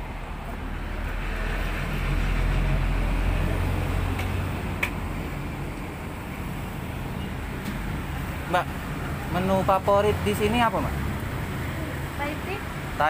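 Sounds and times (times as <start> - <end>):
vehicle engine rumble passing: 0.0 - 13.0.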